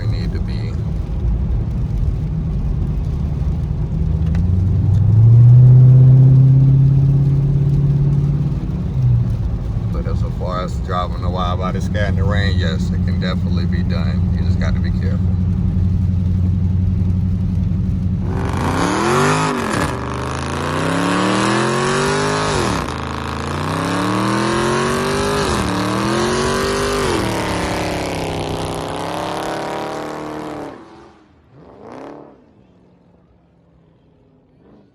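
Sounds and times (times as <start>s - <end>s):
car engine revving: 0.0s - 33.4s.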